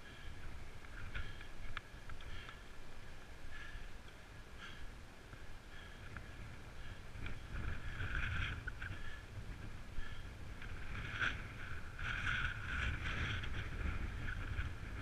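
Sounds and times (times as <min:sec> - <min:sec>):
wind rumble on microphone: 0:00.0 - 0:15.0
bike tyres crunching over stones: 0:00.1 - 0:03.7, 0:05.3 - 0:15.0.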